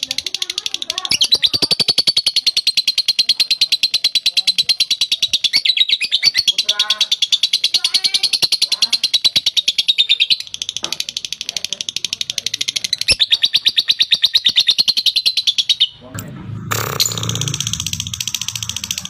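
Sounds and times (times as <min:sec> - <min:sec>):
bird chattering trill: 0:00.0 - 0:16.1, 0:16.8 - 0:19.0.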